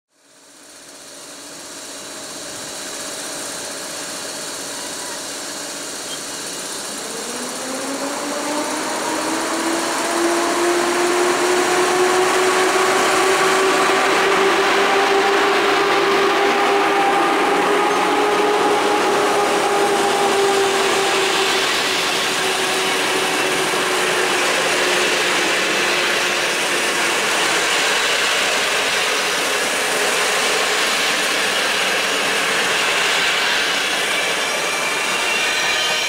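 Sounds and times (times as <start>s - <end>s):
train wheels rumbling and rattling: 0.3s - 36.0s.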